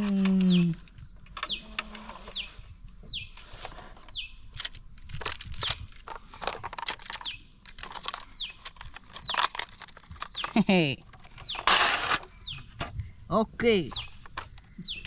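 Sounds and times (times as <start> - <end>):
bird chirping: 0.0 - 4.6, 5.4 - 5.9, 7.0 - 15.0.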